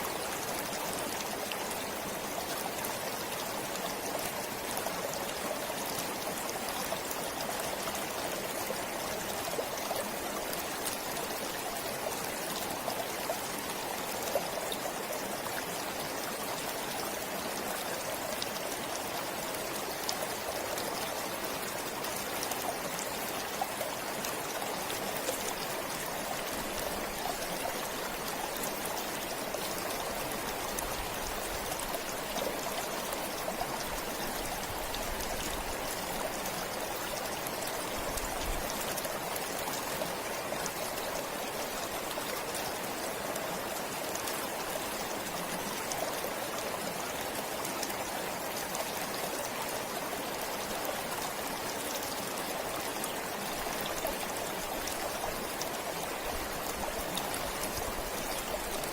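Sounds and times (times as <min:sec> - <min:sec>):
forest stream rushing and trickling: 0:00.0 - 0:58.9.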